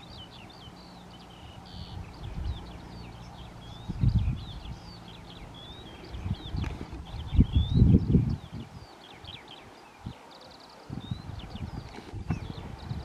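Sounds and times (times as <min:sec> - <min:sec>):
low rumbling buffets: 0:00.0 - 0:09.4, 0:10.9 - 0:13.0
small birds chirping: 0:00.0 - 0:13.0.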